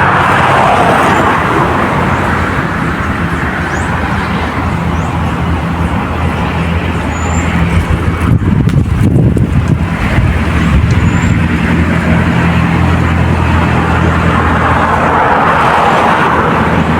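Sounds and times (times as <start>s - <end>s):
engine running with rushing noise: 0.0s - 16.9s.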